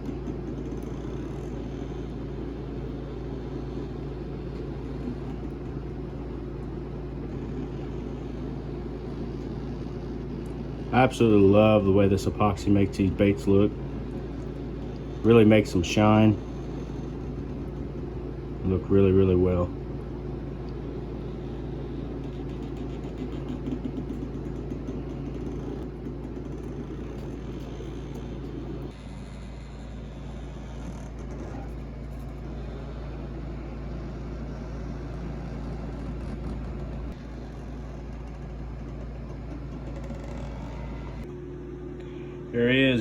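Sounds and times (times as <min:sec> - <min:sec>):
small motor humming and whirring: 0:00.0 - 0:43.0.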